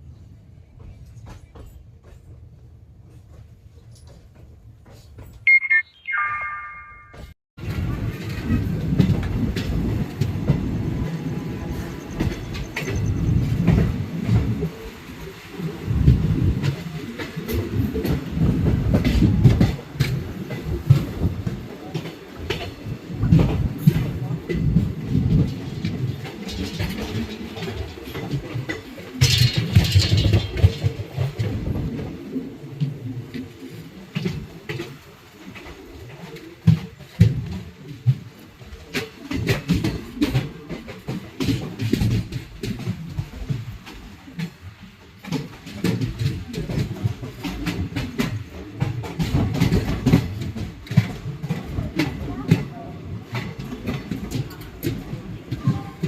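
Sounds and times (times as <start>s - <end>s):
train rumbling on track: 0.0s - 5.4s, 7.6s - 56.0s
wheels clicking over rail joints: 7.6s - 56.0s.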